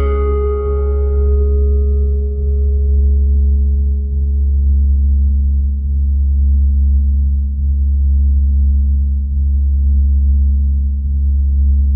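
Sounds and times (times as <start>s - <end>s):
deep electronic bass drone: 0.0s - 11.9s.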